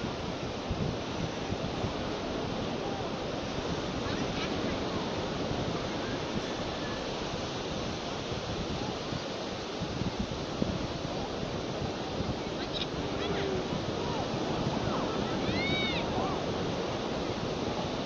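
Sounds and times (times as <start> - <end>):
sea surf washing on beach: 0.0 - 18.0
wind buffeting microphone: 0.0 - 18.0.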